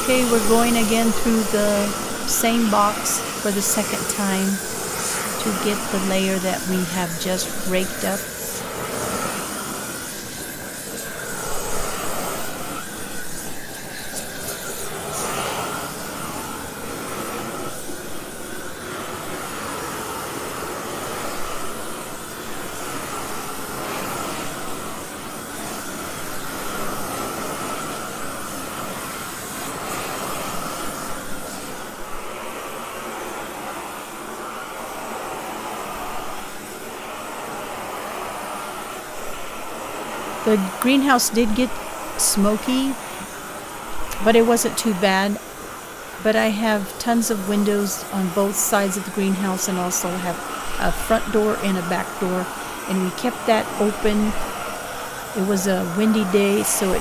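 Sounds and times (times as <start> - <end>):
propane torch jet hiss: 0.0 - 57.0.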